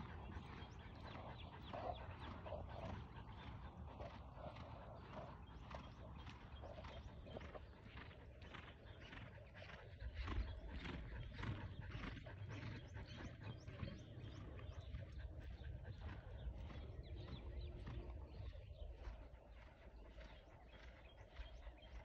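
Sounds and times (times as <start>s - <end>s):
distant horse hoofbeats on dirt: 0.0s - 22.0s.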